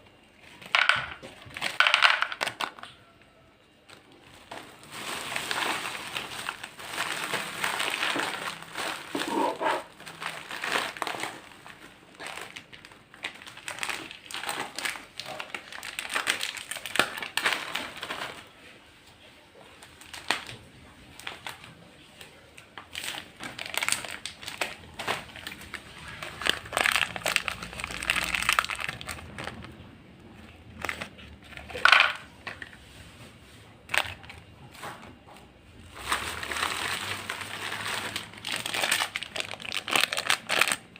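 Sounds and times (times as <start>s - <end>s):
crisps crunching and crinkling: 0.1s - 3.1s, 3.8s - 33.0s, 33.7s - 35.2s, 35.8s - 40.9s.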